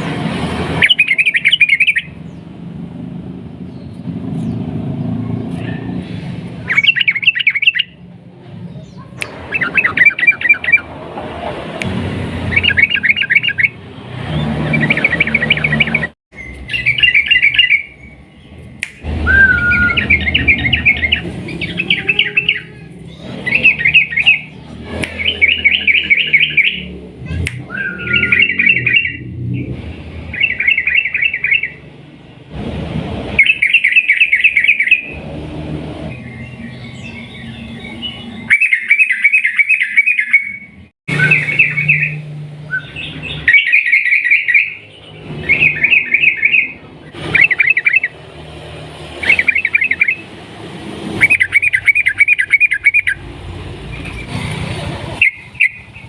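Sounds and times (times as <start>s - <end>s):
bulbul singing: 0.6s - 11.1s, 11.8s - 32.5s, 33.3s - 35.4s, 36.0s - 56.0s.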